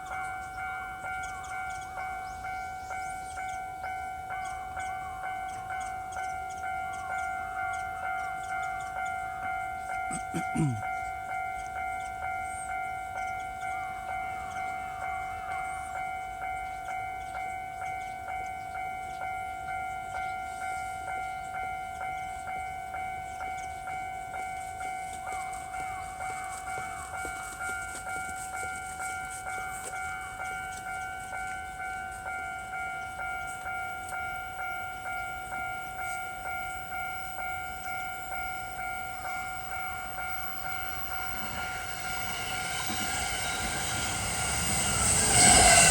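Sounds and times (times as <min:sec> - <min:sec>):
level-crossing warning bell: 0:00.0 - 0:45.9.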